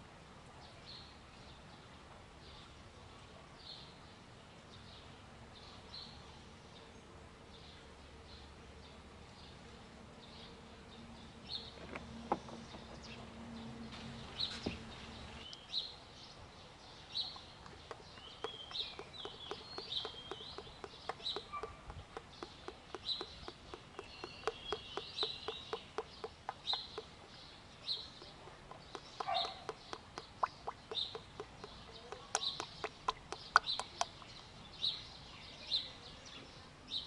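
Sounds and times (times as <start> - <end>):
birds chirping: 3.6 - 37.0.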